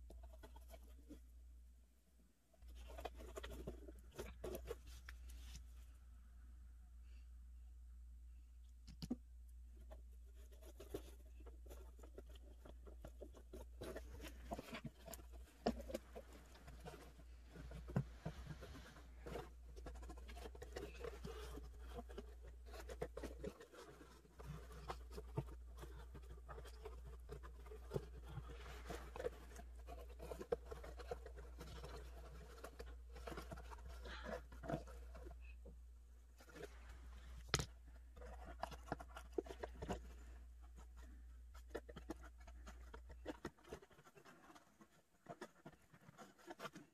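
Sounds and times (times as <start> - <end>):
hands handling cardboard: 0.0 - 1.4, 2.5 - 6.2, 8.7 - 46.9.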